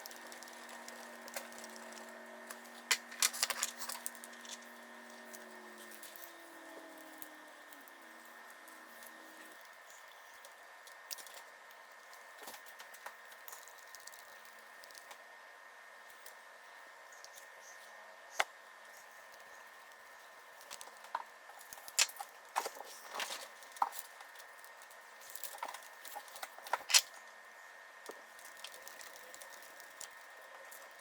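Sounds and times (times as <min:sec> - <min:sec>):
small parts and tools clicking: 0:00.0 - 0:15.2, 0:19.2 - 0:27.2, 0:28.0 - 0:31.0
faint steady whine: 0:00.0 - 0:31.0.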